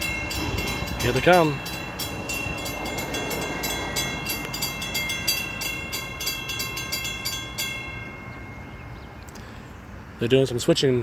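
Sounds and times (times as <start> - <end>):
train rumbling: 0.0 - 9.0
crossing warning bell ringing: 0.0 - 9.2.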